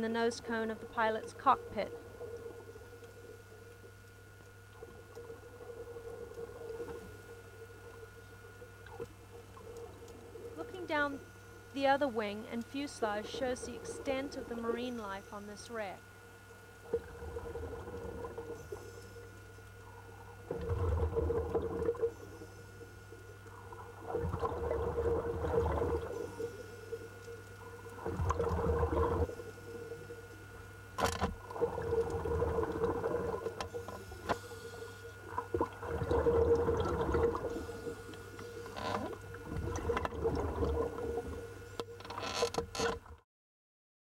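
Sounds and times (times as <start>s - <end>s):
steady hum: 0.0s - 43.2s
underwater bubbles gurgling: 0.2s - 42.0s.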